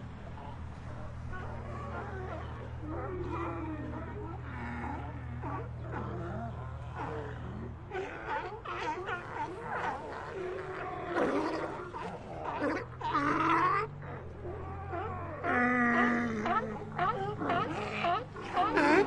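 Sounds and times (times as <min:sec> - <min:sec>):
sea lions calling: 0:00.0 - 0:19.0.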